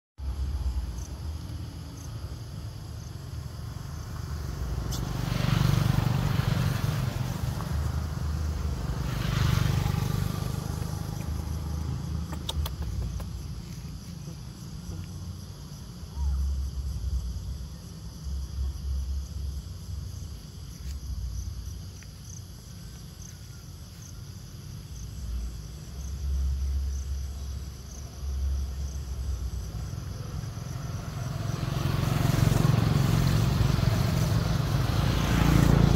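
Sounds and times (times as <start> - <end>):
vehicles passing on road: 0.2 - 35.9.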